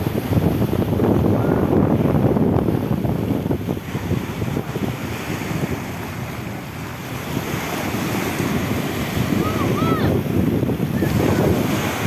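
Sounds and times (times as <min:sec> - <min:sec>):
sea surf breaking on beach: 0:00.0 - 0:12.0
wind buffeting microphone: 0:00.0 - 0:12.0.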